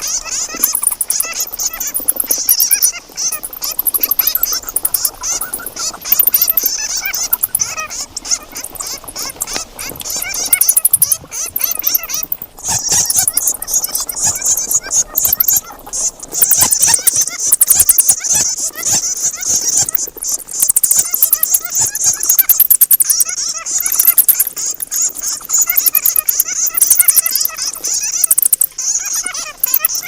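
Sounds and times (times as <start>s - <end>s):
bat squeaks: 0.0s - 30.0s
bats clicking trills: 0.0s - 30.0s.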